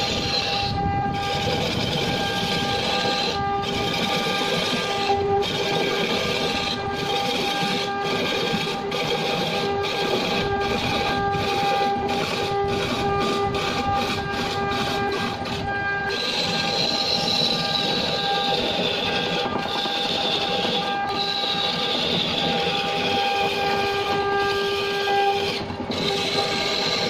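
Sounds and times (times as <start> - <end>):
high whine: 0.0 - 27.0
wood lathe hum: 0.0 - 27.0.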